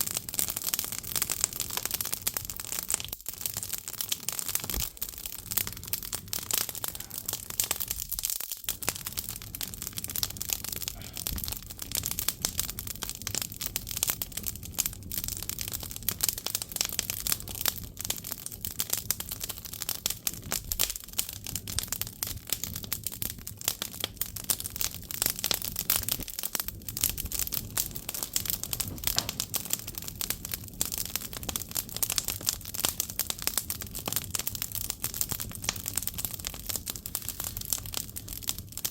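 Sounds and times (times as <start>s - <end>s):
firewood crackling: 0.0s - 38.9s.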